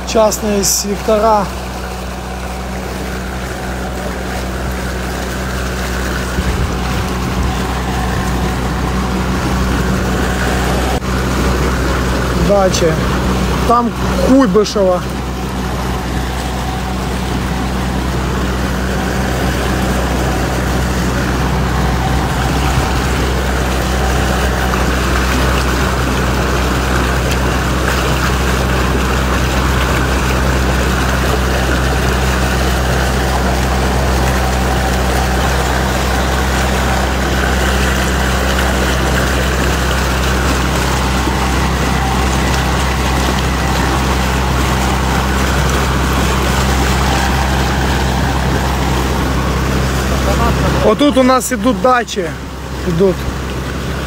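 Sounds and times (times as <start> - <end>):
outboard motor running: 0.0 - 54.0
water washing around hull: 0.0 - 54.0.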